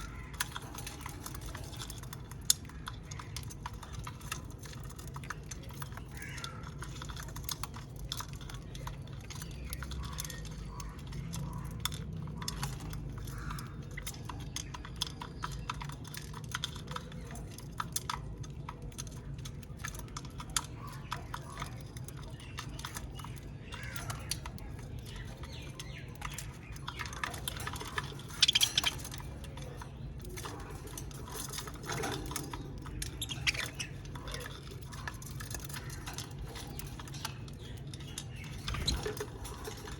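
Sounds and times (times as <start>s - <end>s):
budgies cracking seeds: 0.0s - 39.9s.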